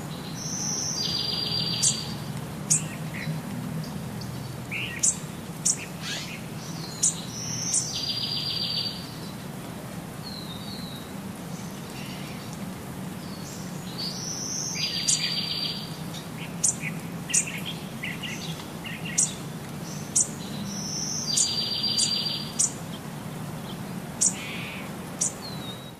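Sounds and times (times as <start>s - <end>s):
small bird singing: 0.0s - 9.4s, 10.2s - 12.6s, 13.2s - 25.9s.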